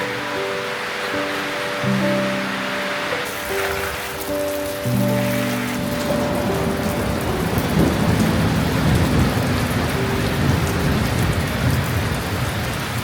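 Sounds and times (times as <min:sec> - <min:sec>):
heavy rain pouring: 0:00.0 - 0:13.0
thunder rumbling: 0:00.0 - 0:13.0.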